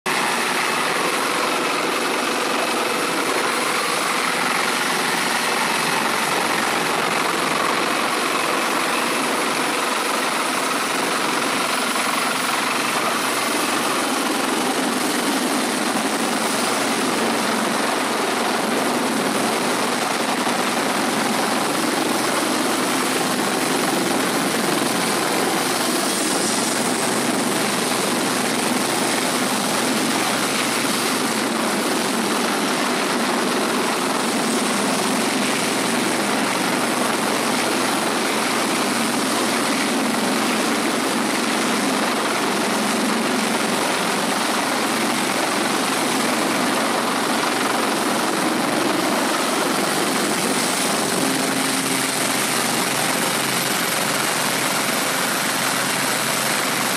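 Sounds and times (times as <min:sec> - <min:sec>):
helicopter rotor and engines: 0:00.1 - 0:56.9.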